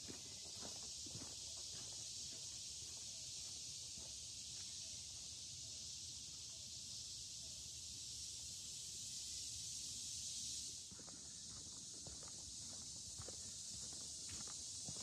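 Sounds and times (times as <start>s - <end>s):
insect chorus hissing: 0.0s - 15.0s.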